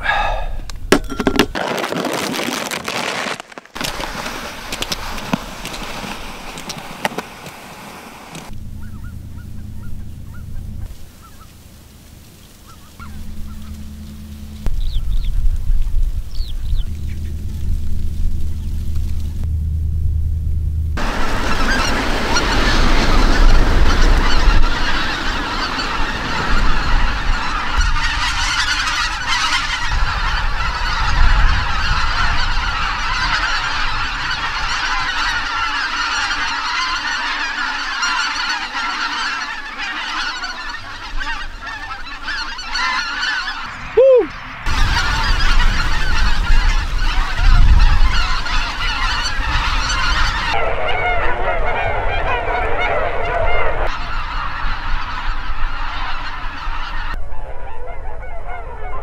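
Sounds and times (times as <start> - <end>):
geese honking: 1.6 - 19.4, 21.0 - 59.0.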